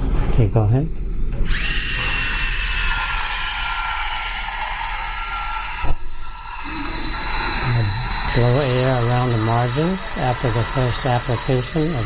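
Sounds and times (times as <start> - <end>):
mixing machine high whine: 1.4 - 12.0.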